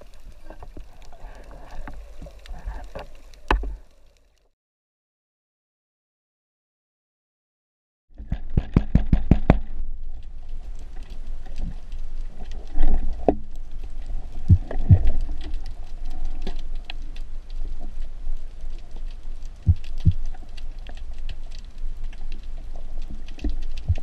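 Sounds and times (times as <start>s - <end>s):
underwater rumble of moving water: 0.0s - 4.4s, 8.3s - 24.0s
small clicks and crackles: 0.0s - 4.5s, 8.2s - 24.0s.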